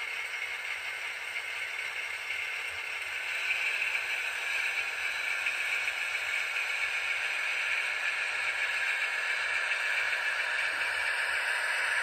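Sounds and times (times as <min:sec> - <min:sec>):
model locomotive running on track: 0:00.0 - 0:12.0.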